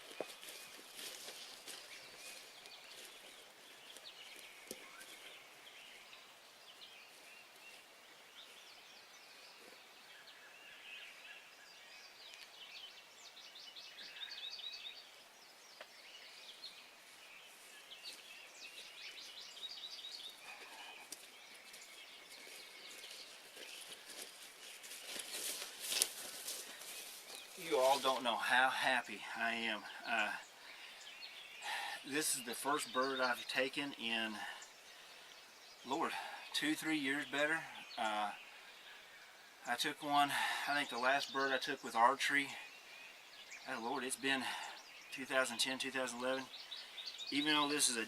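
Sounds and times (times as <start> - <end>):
songbirds chirping and trilling: 0.0 - 48.0.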